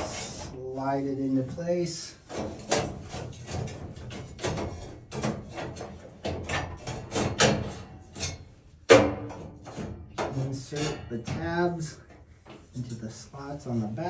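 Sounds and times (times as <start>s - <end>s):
metal guard scraping and clanking: 0.0s - 14.0s.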